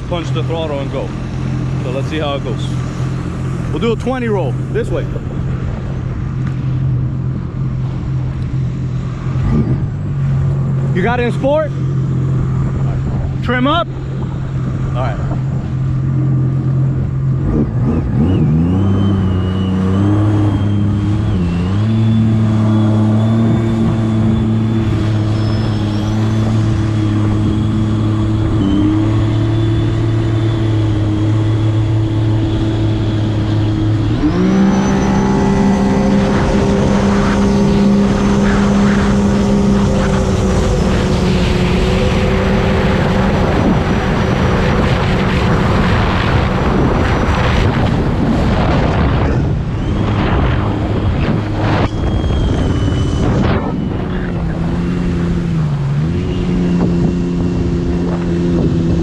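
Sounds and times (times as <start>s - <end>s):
jet ski engine revving: 7.4s - 59.0s.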